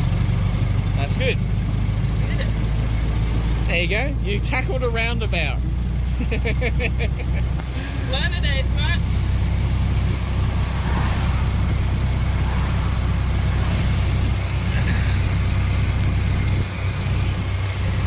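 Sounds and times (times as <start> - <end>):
car engine running: 0.0 - 18.0
road and wind noise: 0.0 - 18.0.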